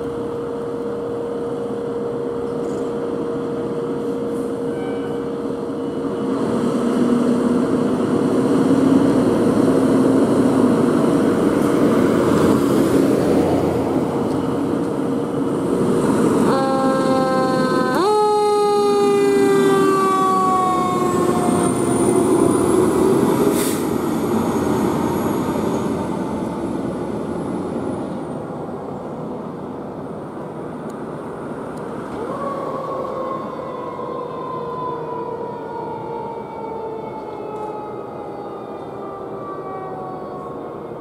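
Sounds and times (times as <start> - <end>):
fire engine siren wailing: 0.0 - 28.5, 32.0 - 41.0.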